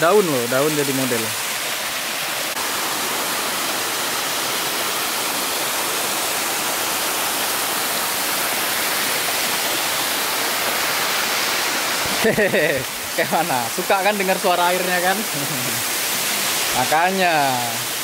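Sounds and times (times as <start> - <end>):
waterfall splashing over rocks: 0.0 - 18.0.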